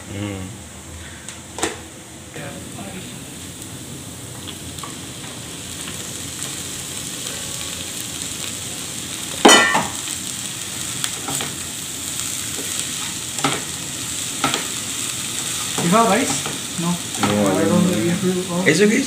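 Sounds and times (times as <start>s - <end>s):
vegetables sizzling in a frying pan: 1.4s - 19.0s.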